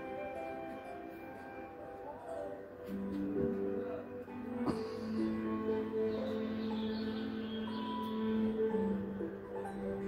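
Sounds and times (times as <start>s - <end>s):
music with long held notes: 0.0s - 10.0s.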